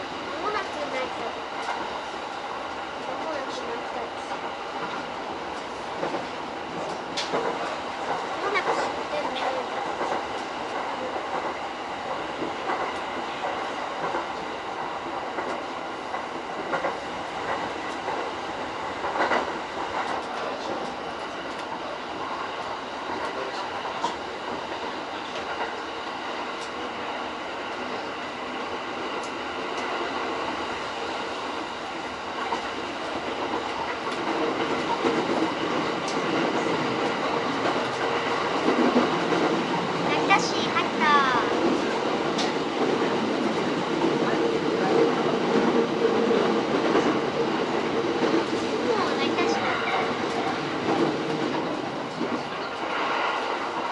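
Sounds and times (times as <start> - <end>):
train wheel and rail rumble: 0.0 - 53.9.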